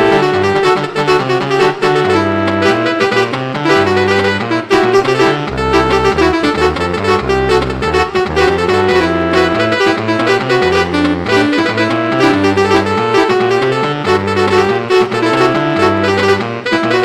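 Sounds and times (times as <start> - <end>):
reedy brassy horn melody: 0.0 - 17.0.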